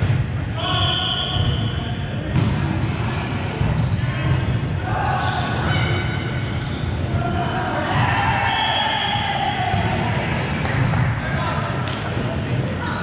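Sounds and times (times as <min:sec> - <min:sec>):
gym hall noise: 0:00.0 - 0:13.0.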